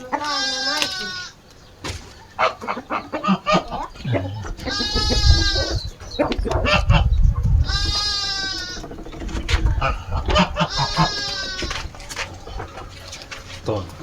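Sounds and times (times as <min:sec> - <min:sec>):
goat bleating: 0:00.0 - 0:01.4, 0:02.4 - 0:14.0.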